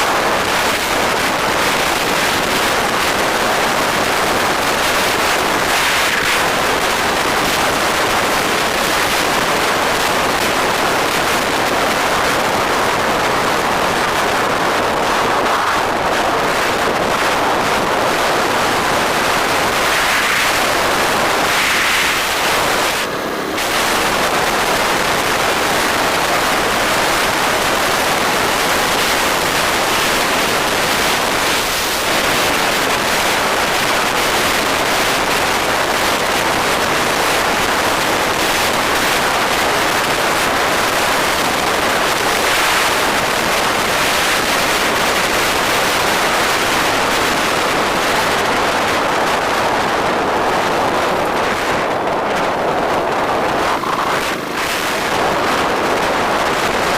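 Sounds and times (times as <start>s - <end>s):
road noise: 0.0s - 56.9s
wind on microphone: 0.0s - 56.9s.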